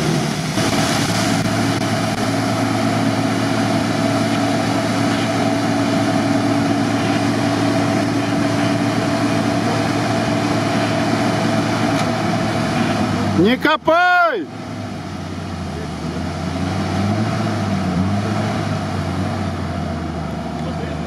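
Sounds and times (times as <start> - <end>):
engine at high revs: 0.0 - 13.6, 14.6 - 21.0.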